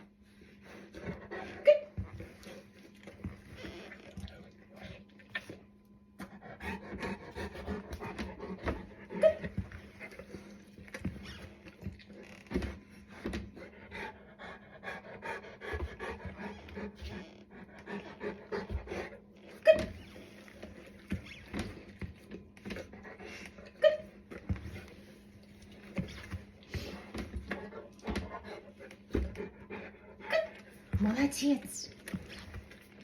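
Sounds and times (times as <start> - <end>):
dog panting: 0.0 - 33.0.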